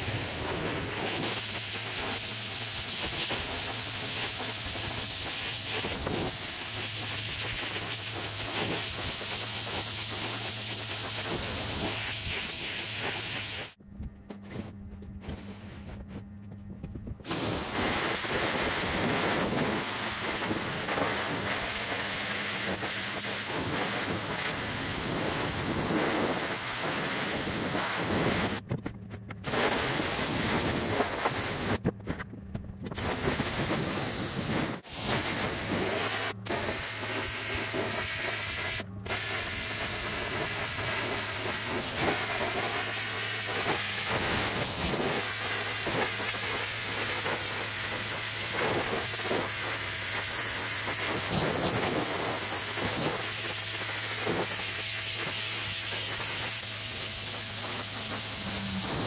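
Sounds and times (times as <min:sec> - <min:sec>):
pressure washer spraying wood: 0:00.0 - 0:13.8, 0:17.2 - 0:28.7, 0:29.4 - 0:31.8, 0:32.9 - 0:59.0.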